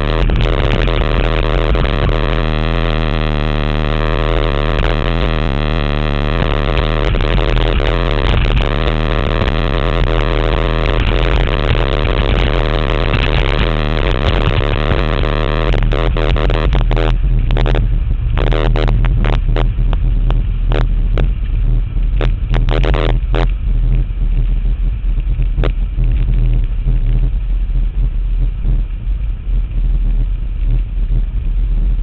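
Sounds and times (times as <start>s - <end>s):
exhaust crackles and pops: 0.0s - 32.0s
low engine drone: 0.0s - 32.0s.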